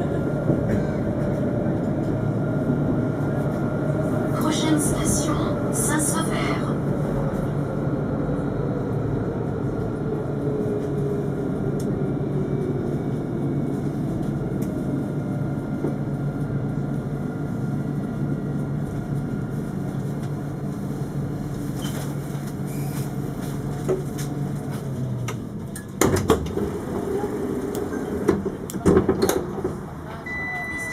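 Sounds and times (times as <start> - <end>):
tram running with electric whine: 0.0 - 30.9.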